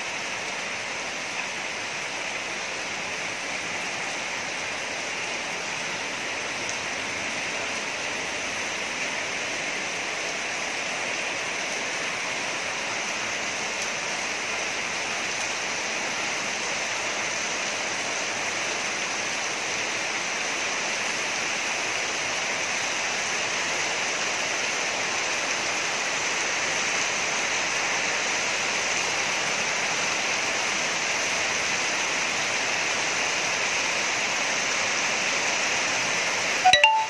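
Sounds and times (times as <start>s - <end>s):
heavy rain falling: 0.0s - 36.8s.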